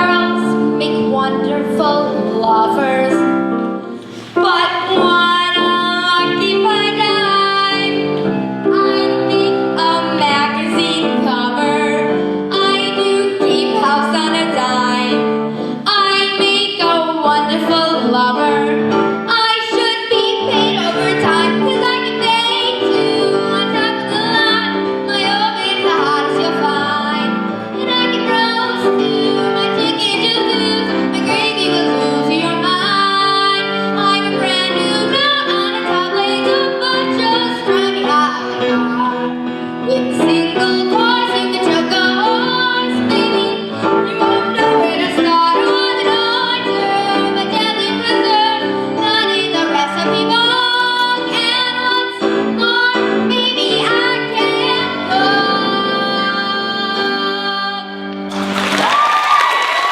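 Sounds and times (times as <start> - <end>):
piano accompaniment: 0.0 - 59.9
young woman singing with vibrato: 0.0 - 59.9.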